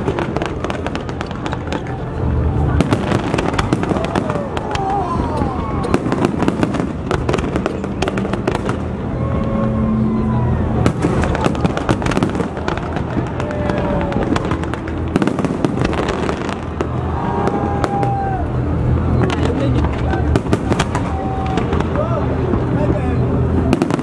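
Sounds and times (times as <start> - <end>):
fireworks bangs and crackles: 0.0 - 10.0, 10.6 - 24.0
continuous rumble: 0.0 - 24.0.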